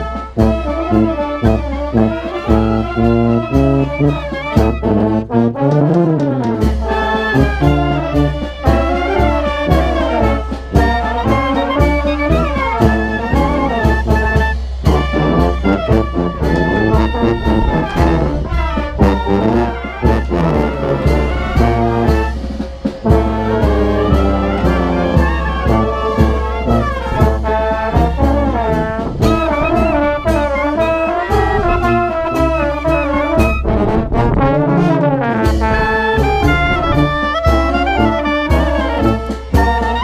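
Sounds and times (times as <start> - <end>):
brass band playing: 0.0 - 40.0
steady drum beat: 0.0 - 40.0.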